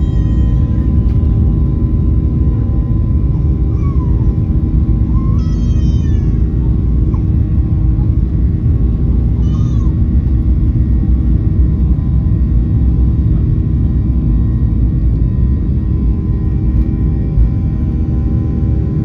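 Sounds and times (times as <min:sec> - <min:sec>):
engine and airflow rumble: 0:00.0 - 0:19.0
jet engine tonal hum: 0:00.0 - 0:19.0.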